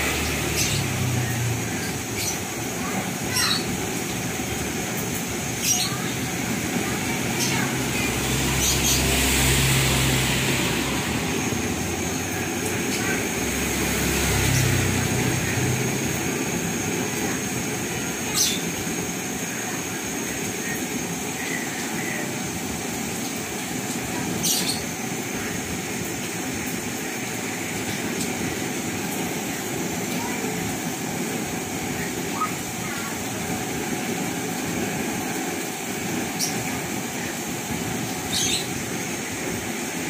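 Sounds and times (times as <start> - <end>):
stove burner running: 0.0 - 40.0.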